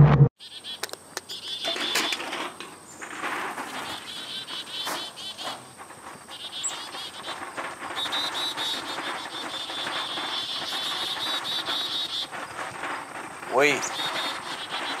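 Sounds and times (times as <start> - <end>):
insects chirping: 0.4 - 15.0
short clatters: 0.8 - 15.0.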